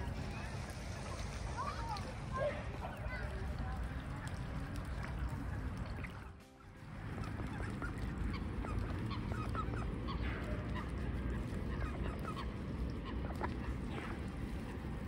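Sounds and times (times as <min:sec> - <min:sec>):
low background rumble: 0:00.0 - 0:15.0
ducks calling softly: 0:02.4 - 0:15.0.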